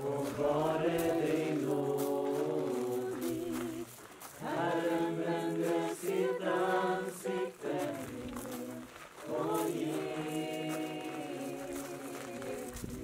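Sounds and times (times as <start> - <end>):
voices singing long notes: 0.0 - 13.0.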